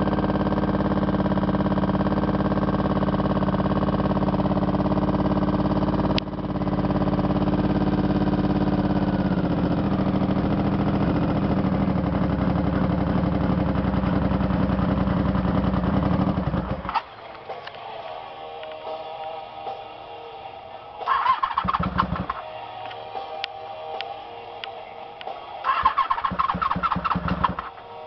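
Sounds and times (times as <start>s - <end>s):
motorcycle engine idling: 0.0s - 17.9s, 20.4s - 23.3s, 24.0s - 28.0s.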